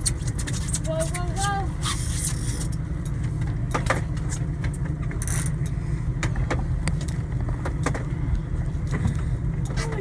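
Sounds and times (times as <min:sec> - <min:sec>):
boat motor rumbling: 0:00.0 - 0:10.0.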